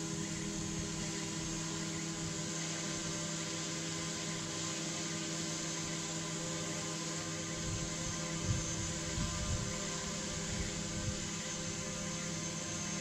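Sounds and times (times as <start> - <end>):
microwave electrical hum: 0.0 - 13.0.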